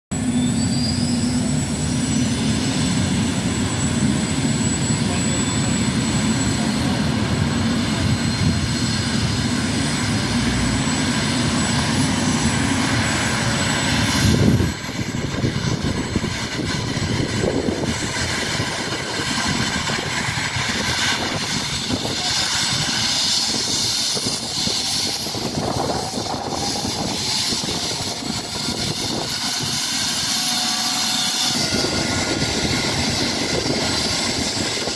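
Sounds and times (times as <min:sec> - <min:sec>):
helicopter rotor and engine noise: 0:00.1 - 0:34.9
helicopter turbine whine: 0:00.1 - 0:34.9.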